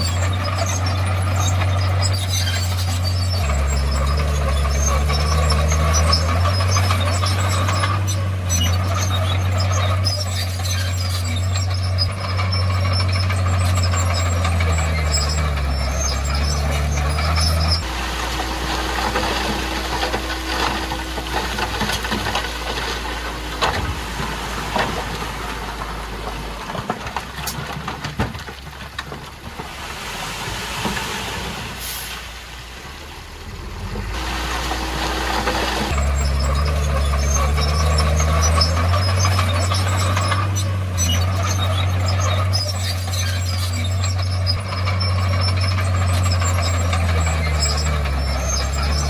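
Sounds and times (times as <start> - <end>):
diesel construction machinery running: 0.0 - 49.0.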